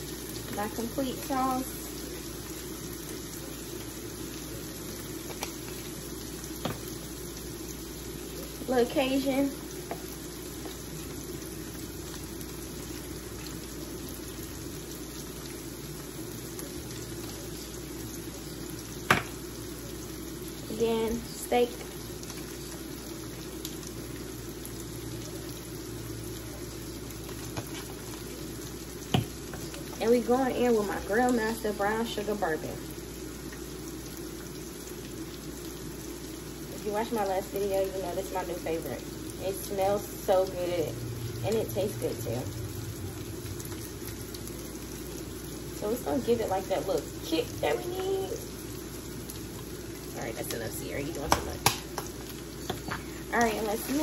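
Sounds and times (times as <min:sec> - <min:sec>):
steak sizzling in a pan: 0:00.0 - 0:54.0.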